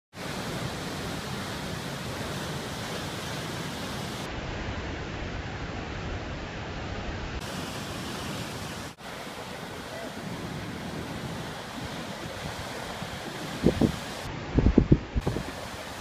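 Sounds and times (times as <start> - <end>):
ocean surf breaking: 0.1 - 16.0.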